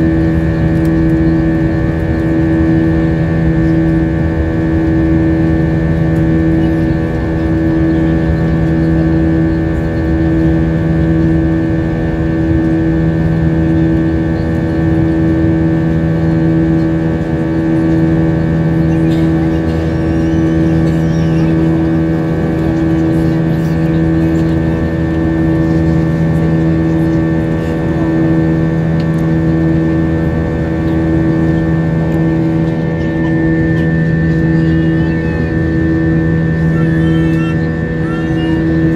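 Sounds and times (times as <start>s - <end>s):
jet engines humming: 0.0s - 38.9s.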